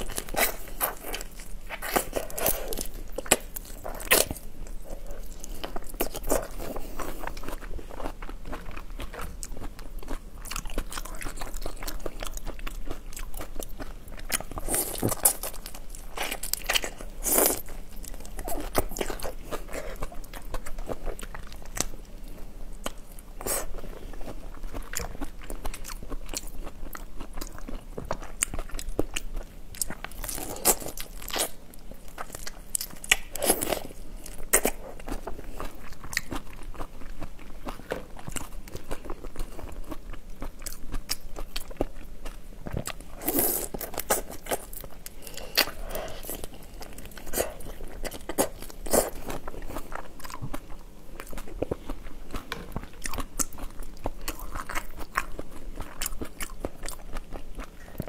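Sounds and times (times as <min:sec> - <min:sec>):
chewing crunchy shrimp shells: 0:00.0 - 0:58.0.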